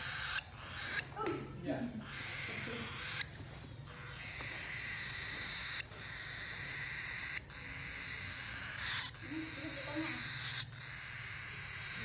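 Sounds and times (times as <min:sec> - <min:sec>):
cockatiel harsh raspy calls: 0:00.0 - 0:12.0.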